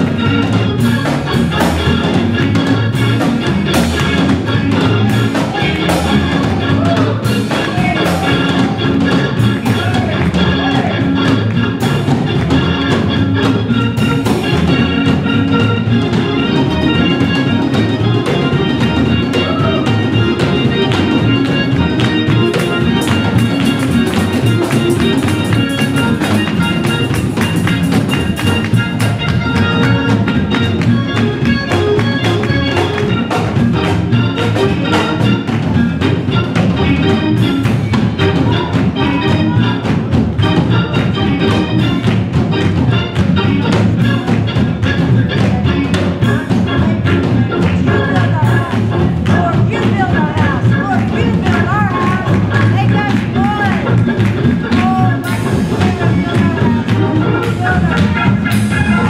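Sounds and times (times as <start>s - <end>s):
drum kit steady beat: 0.0s - 59.0s
live band music: 0.0s - 59.0s.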